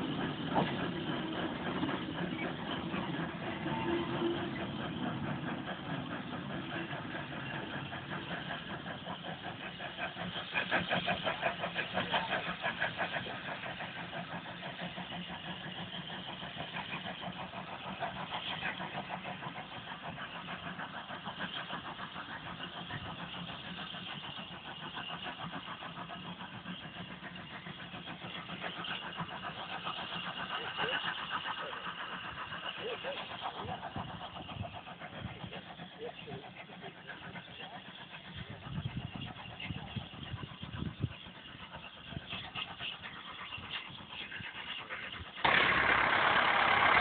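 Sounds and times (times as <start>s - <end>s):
engine knocking: 0.0s - 47.0s.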